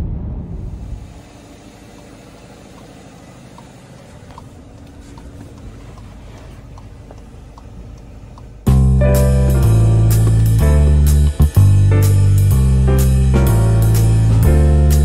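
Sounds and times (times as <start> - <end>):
diesel engine idling: 0.8 - 15.0.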